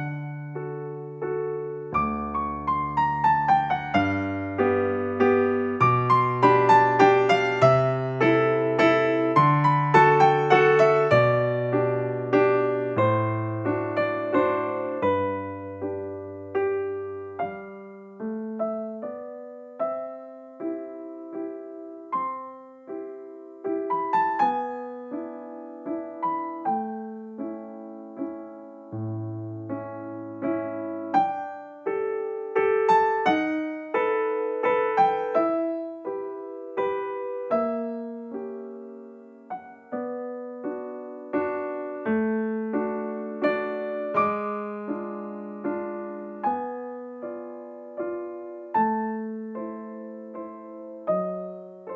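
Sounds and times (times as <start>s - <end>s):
gentle piano melody: 0.0s - 51.9s.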